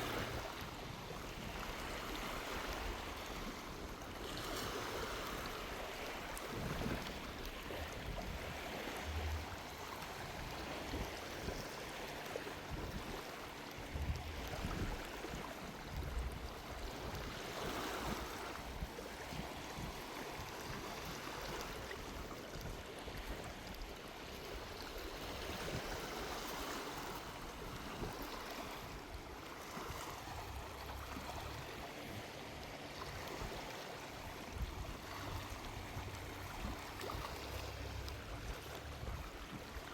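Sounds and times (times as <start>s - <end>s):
small waves on sandy beach: 0.0s - 39.9s.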